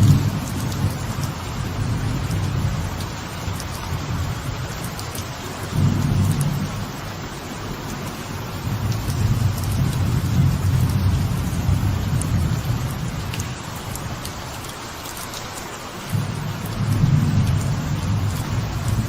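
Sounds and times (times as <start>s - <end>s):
low rolling thunder: 0.0s - 14.2s, 16.1s - 19.0s
light rain on a veranda: 0.0s - 19.0s
sharp water drips: 0.0s - 19.0s.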